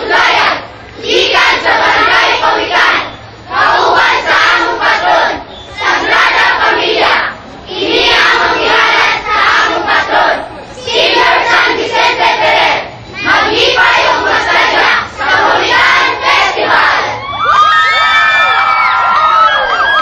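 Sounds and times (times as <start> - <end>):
crowd shouting in unison: 0.0 - 20.0.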